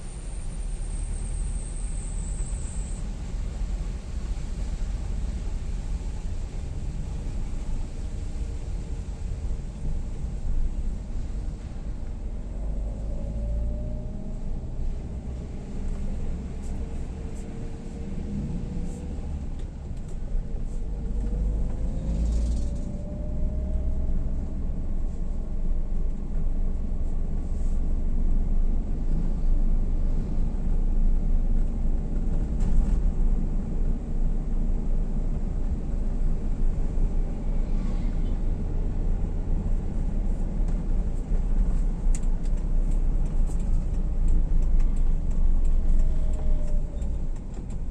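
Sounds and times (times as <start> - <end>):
faint engine whine: 0.0 - 47.9
vehicle low rumble: 0.0 - 47.9.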